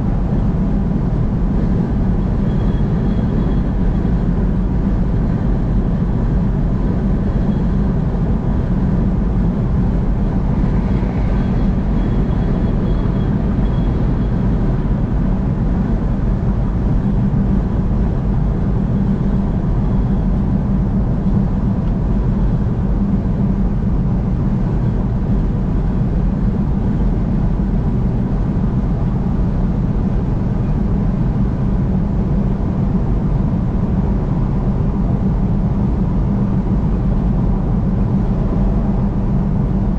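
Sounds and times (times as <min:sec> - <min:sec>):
vehicle road and engine drone: 0:00.0 - 0:39.9.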